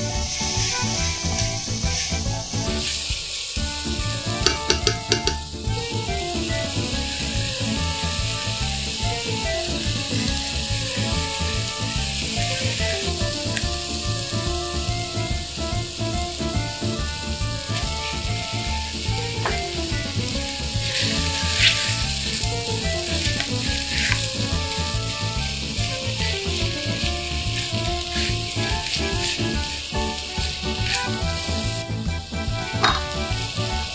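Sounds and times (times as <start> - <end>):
background music: 0.0 - 33.9
vegetables sizzling in a pot: 0.0 - 33.9.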